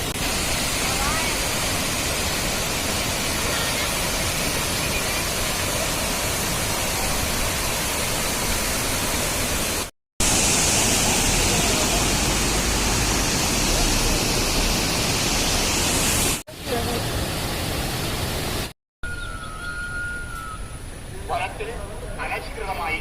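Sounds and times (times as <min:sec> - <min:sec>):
waterfall roaring: 0:00.0 - 0:18.7.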